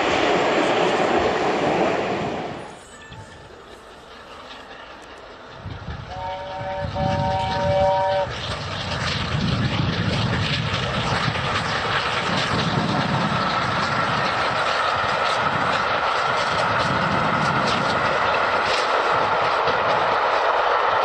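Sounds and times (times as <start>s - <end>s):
steam locomotive rushing past: 0.0s - 21.0s.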